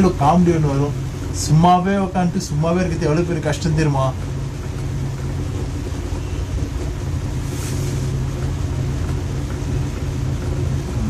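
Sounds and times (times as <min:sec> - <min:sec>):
air cooler fan running: 0:00.0 - 0:11.0.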